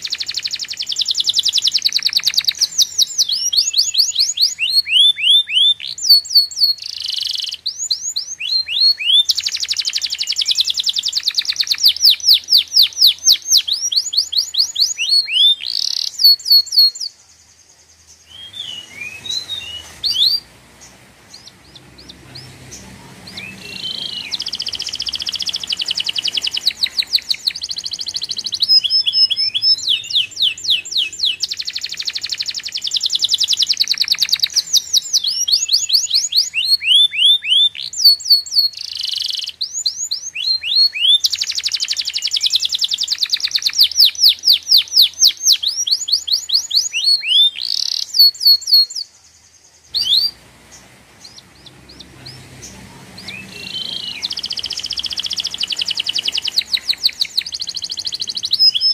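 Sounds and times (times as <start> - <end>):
songbird chirps and trills: 0.0 - 58.9.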